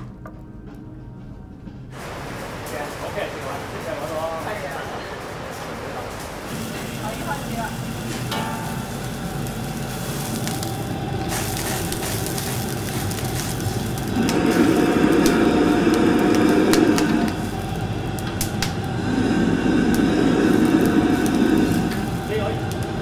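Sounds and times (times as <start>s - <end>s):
gas burner rushing: 1.9s - 23.0s.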